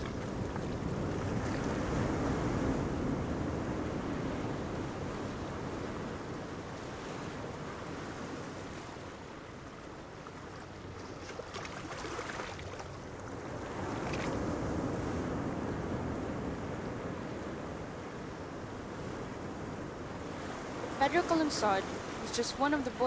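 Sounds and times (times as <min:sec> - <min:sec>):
sea waves washing on shore: 0:00.0 - 0:23.0
wind: 0:00.0 - 0:23.0.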